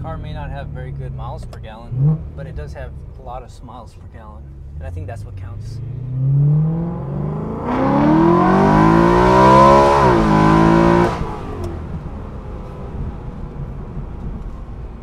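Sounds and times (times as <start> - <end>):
car engine accelerating hard: 0.0 - 3.4, 4.4 - 15.0.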